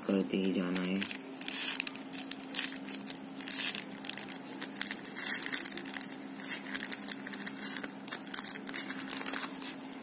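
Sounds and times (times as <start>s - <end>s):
plastic sheet crinkling: 0.3s - 10.0s.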